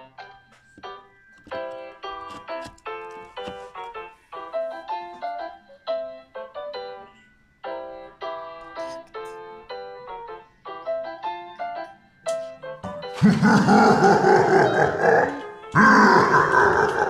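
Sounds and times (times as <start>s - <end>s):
keyboard melody: 0.0s - 17.0s.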